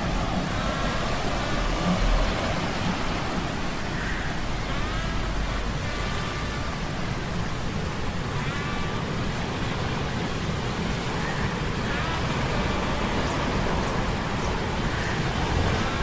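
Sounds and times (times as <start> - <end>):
sea storm rushing: 0.0 - 16.0.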